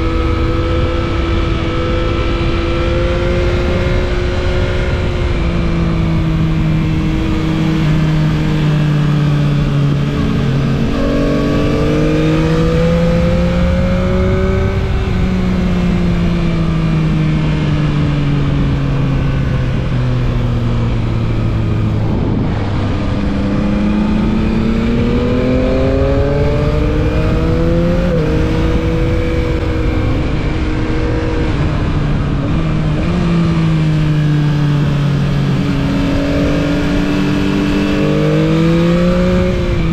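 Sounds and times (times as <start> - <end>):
motorcycle engine revving: 0.0 - 39.9
rush of riding wind: 0.0 - 39.9.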